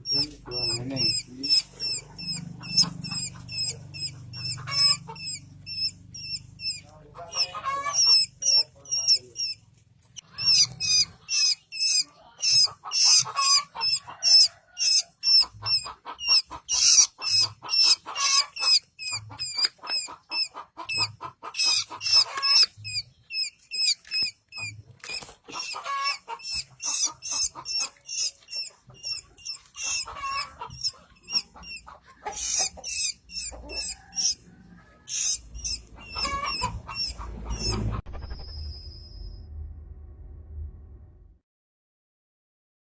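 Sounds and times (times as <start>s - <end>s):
baby birds chirping: 0.0s - 38.0s.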